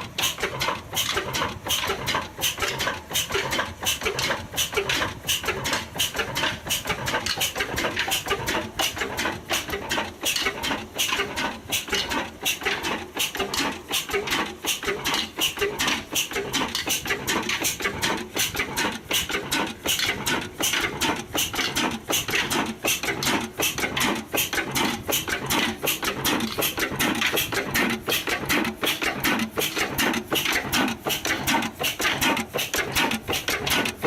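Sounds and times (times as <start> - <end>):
diesel engine clattering: 0.0 - 34.0.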